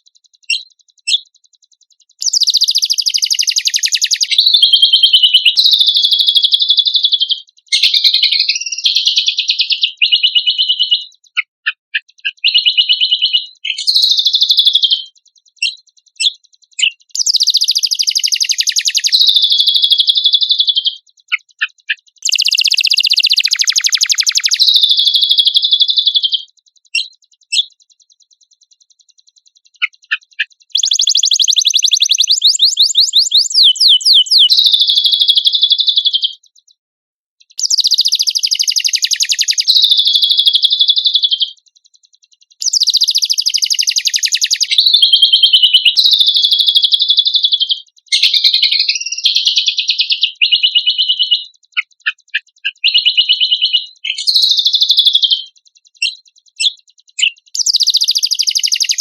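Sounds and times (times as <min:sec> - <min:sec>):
songbird trilling: 0:00.0 - 0:36.5, 0:37.5 - 0:41.7, 0:42.6 - 0:59.0.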